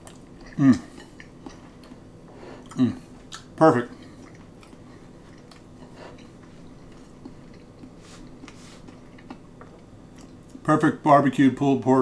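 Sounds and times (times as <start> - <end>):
faint chewing: 0.0 - 10.6.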